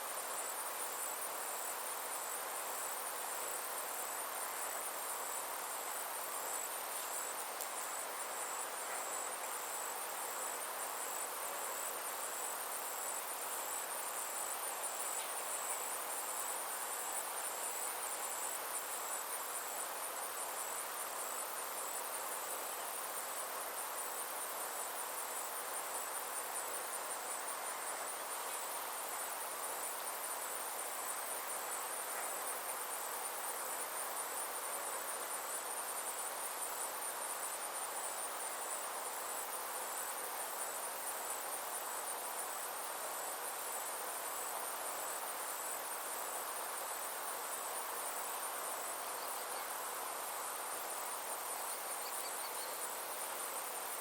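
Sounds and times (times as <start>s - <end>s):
insects trilling: 0.0s - 54.0s
soft steady hiss: 0.0s - 54.0s.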